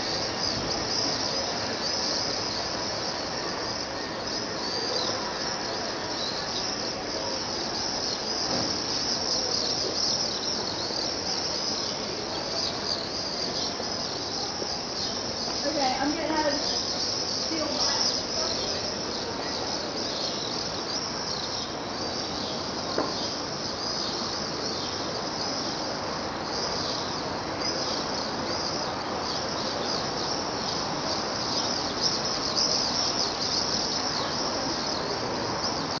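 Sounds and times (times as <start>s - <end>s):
swifts screaming: 0.0s - 36.0s.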